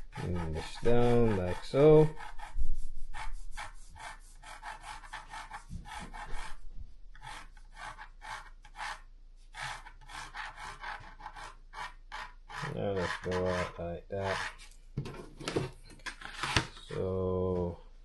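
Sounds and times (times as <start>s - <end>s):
drawing tool scratching cardboard: 0.0s - 6.6s, 7.2s - 15.3s.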